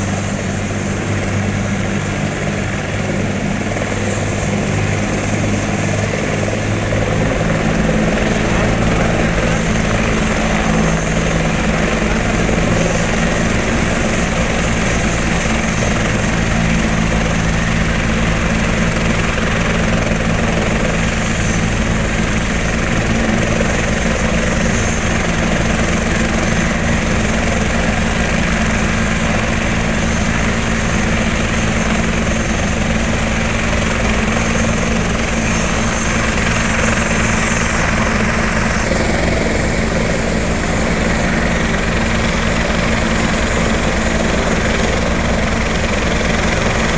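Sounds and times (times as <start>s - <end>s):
helicopter rotor and turbine: 0.0s - 46.9s
high-pitched turbine whine: 0.0s - 46.9s.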